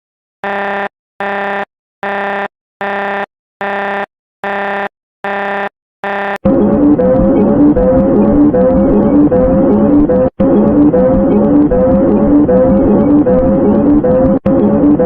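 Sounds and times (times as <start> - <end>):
pulsing buzzy alarm tone: 0.4 - 15.0.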